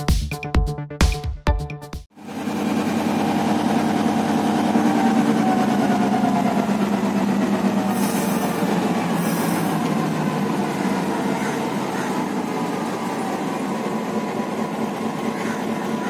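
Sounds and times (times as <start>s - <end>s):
diesel locomotive droning: 2.1s - 16.0s.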